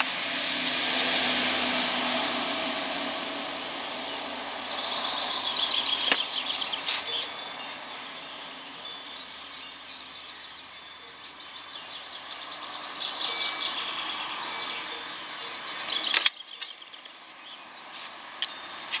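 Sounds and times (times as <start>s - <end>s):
small birds chirping: 3.2s - 19.0s.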